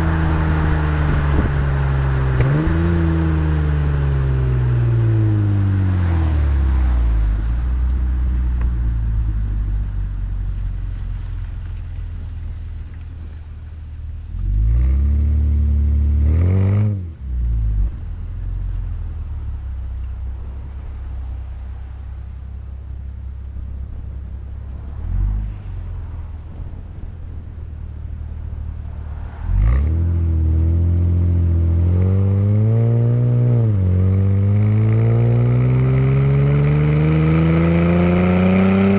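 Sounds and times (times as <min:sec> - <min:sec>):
car engine accelerating hard: 0:00.0 - 0:11.4, 0:14.2 - 0:38.9.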